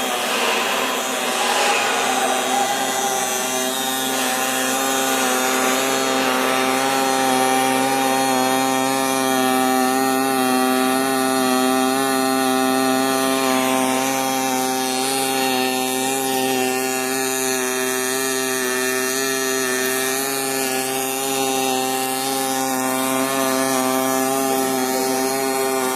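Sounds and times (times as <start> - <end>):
welding arc buzzing hum with hiss: 0.0 - 25.9.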